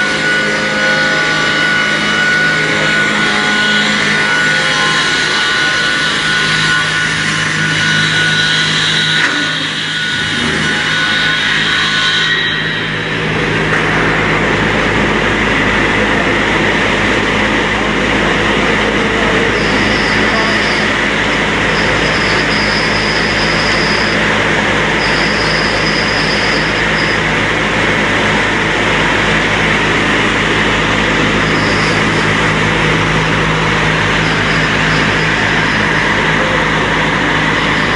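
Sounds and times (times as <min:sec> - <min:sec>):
high machine whine: 0:00.0 - 0:37.9
low hum: 0:00.0 - 0:37.9
slicing machine running: 0:00.0 - 0:37.9.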